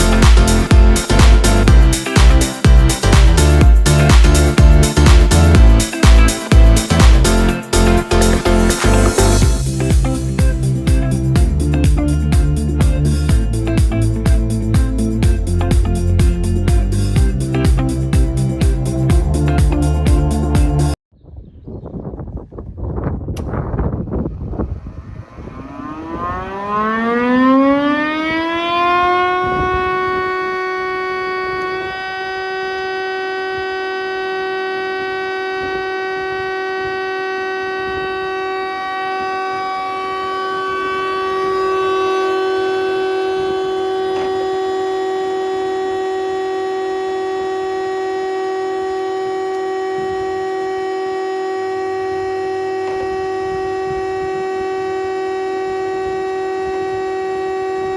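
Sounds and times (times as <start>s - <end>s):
thicknesser motor whine: 0.0s - 21.0s, 23.4s - 57.9s.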